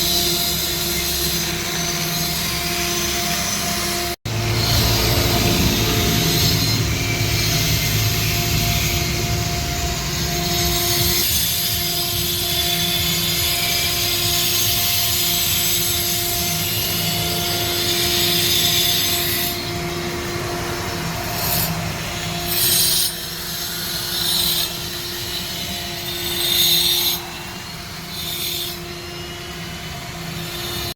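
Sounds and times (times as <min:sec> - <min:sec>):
cutter grinding stone: 0:00.0 - 0:30.9
router spindle whine: 0:00.0 - 0:30.9.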